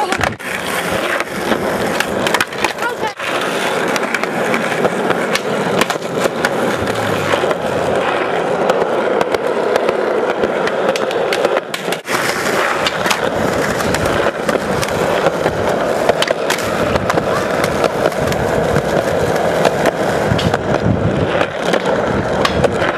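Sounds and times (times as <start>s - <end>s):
skateboard clacks: 0.0s - 22.9s
skateboard wheels rolling on asphalt: 0.0s - 22.9s.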